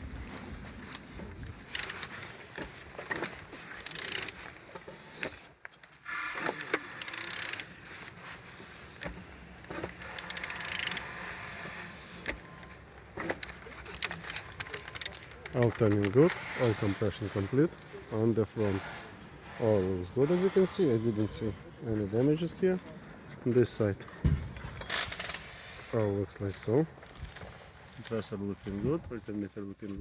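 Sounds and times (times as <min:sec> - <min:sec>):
metallic clicks and scrapes: 0:00.2 - 0:23.0, 0:23.7 - 0:28.4.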